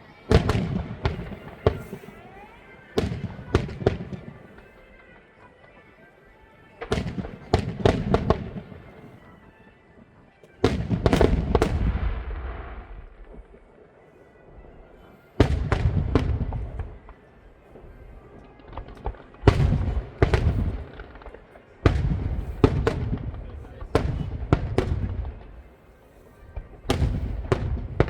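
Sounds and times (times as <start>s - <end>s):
fireworks bursting: 0.0s - 5.2s, 6.8s - 9.6s, 10.6s - 28.0s.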